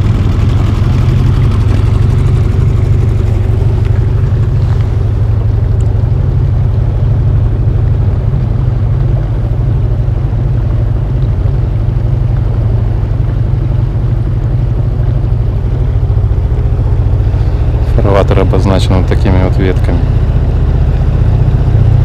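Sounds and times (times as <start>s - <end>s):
outboard motor droning: 0.0s - 22.0s.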